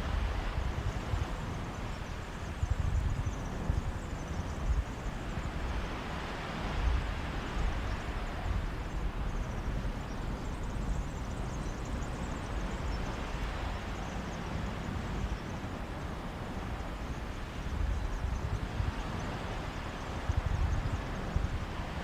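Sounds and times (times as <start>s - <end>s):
wind rumbling on microphone: 0.0s - 22.0s
waves washing onto beach: 3.2s - 22.0s.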